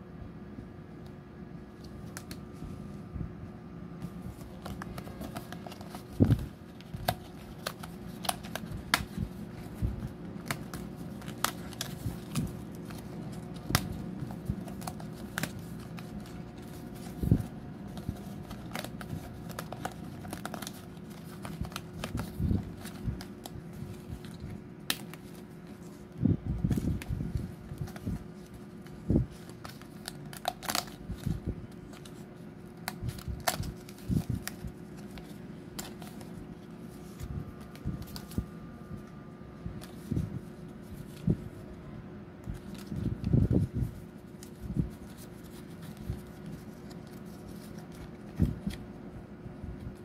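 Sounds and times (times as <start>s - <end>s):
stiff card rustling and clicking: 4.0s - 41.7s, 42.4s - 49.0s.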